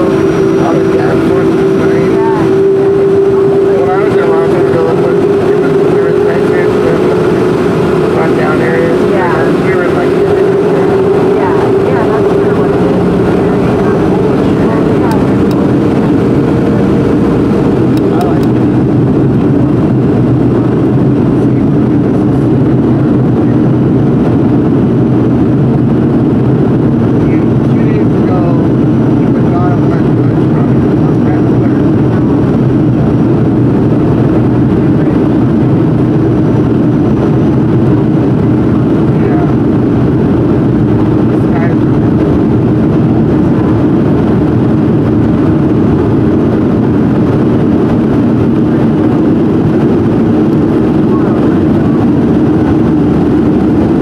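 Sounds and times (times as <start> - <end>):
airliner engines droning: 0.0 - 54.0.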